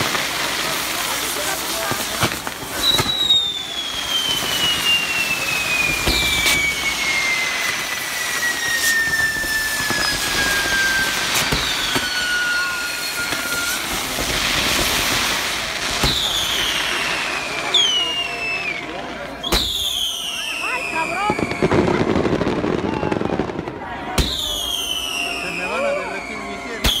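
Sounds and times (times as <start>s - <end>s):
firework cracks: 0.0s - 25.9s, 26.7s - 27.0s
falling firework whistles: 0.0s - 27.0s
fireworks hissing: 0.0s - 27.0s.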